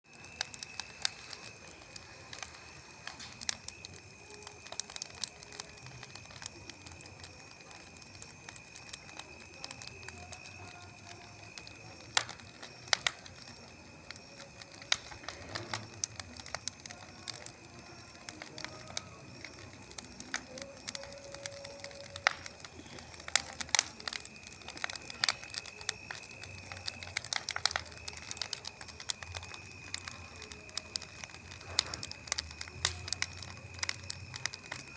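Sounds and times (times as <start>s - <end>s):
bonfire crackling and popping: 0.0s - 34.9s.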